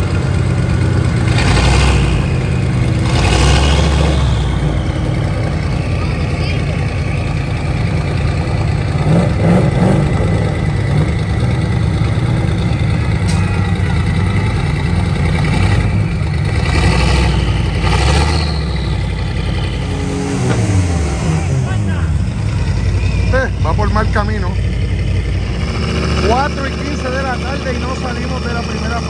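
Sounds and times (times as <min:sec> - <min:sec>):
truck engine revving under load: 0:00.0 - 0:29.0.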